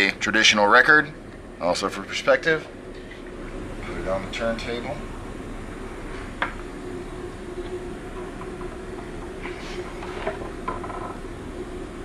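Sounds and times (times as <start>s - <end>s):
low hum of room noise: 0.0s - 12.0s.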